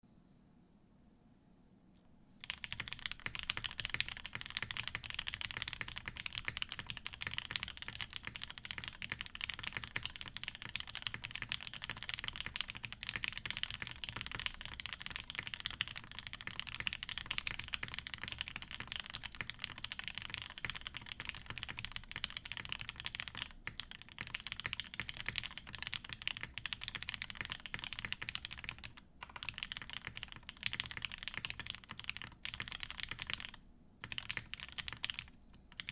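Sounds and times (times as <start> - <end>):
fast typing on mechanical keyboard: 2.4 - 35.9.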